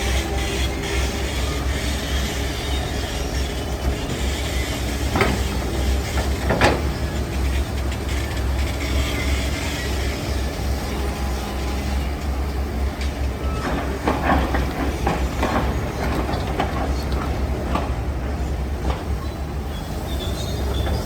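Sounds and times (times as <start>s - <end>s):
diesel construction machinery rumbling: 0.0s - 21.0s.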